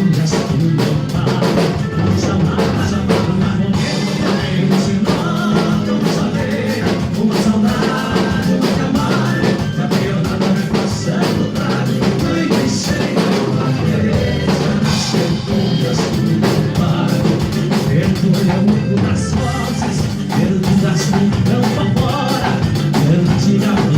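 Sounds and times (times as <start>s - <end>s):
live band playing: 0.0s - 23.9s
person singing: 0.0s - 23.9s.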